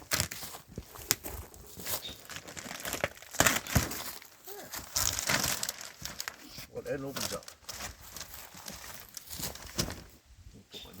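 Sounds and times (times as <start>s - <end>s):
cardboard tearing and crinkling: 0.0s - 10.2s.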